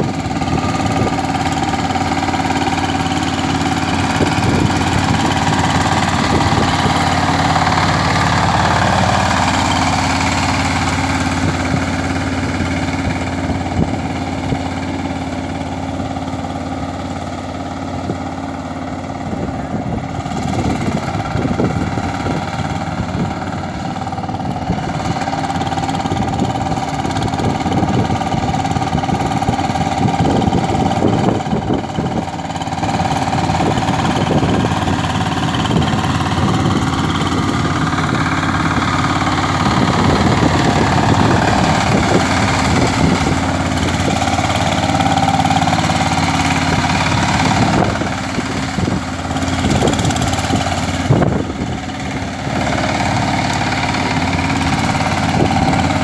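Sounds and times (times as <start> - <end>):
diesel tiller engine running: 0.0 - 56.0.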